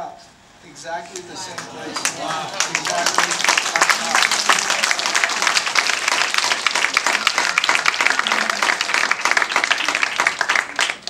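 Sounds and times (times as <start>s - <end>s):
audience applauding: 1.1s - 11.0s.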